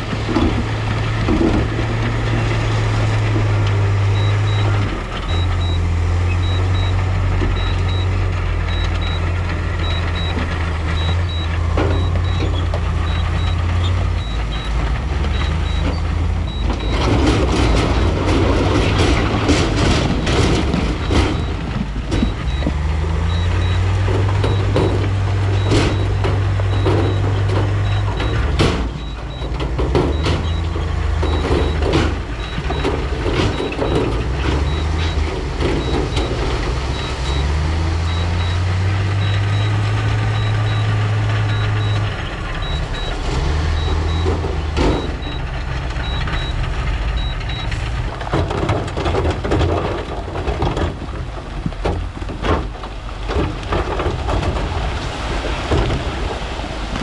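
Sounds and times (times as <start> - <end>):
diesel engine running: 0.0 - 57.0
rocks clattering: 0.0 - 57.0
reversing alarm beeping: 0.4 - 47.9.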